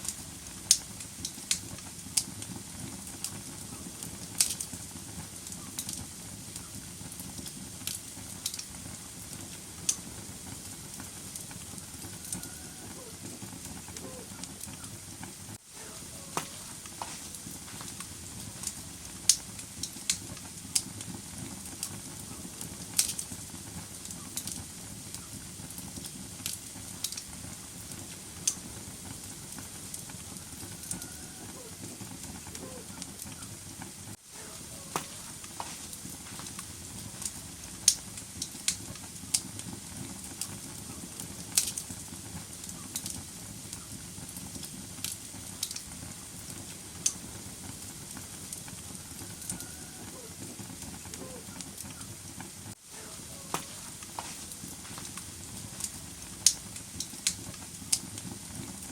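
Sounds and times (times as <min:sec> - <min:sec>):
fireplace fire crackling: 0:00.0 - 0:58.9.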